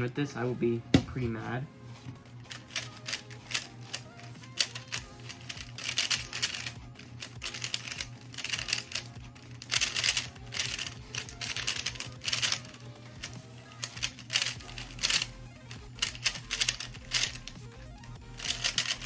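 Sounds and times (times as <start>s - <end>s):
background music: 0.0s - 19.0s
speed cube clacking: 2.4s - 19.0s.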